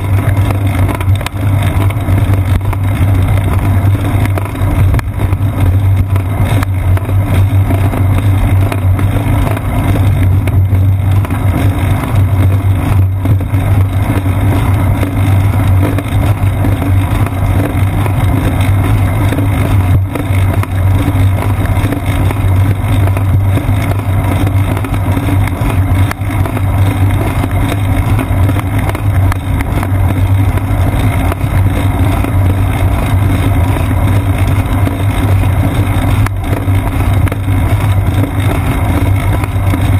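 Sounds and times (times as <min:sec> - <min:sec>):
constant low hum: 0:00.0 - 0:39.9
wind and road noise: 0:00.0 - 0:39.9.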